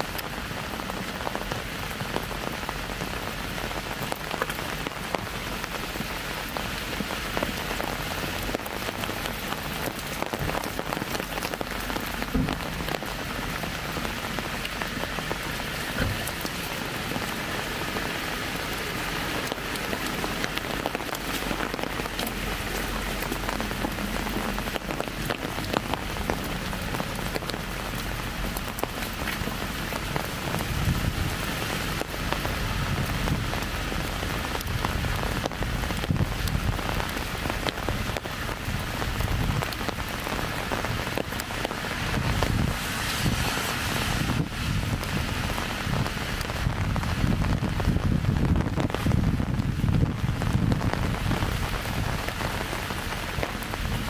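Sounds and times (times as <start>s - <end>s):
light rain on an umbrella: 0.0s - 54.0s.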